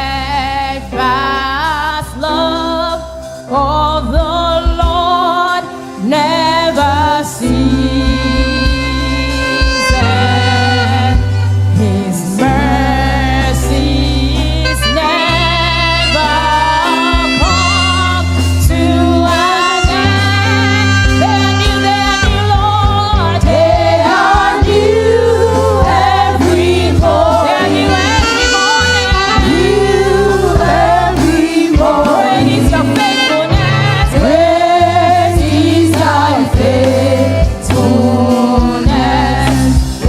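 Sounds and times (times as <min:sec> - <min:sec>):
praise team singing: 0:00.0 - 0:40.0.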